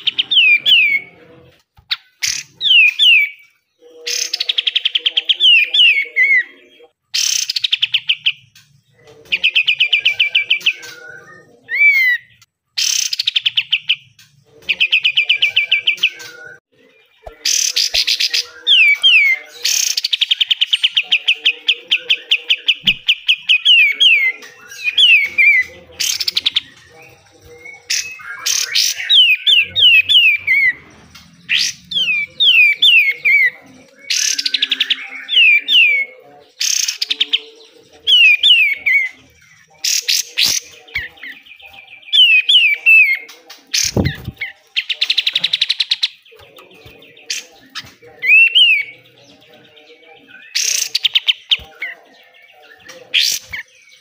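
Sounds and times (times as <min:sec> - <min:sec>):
bulbul song: 0:00.0 - 0:54.0.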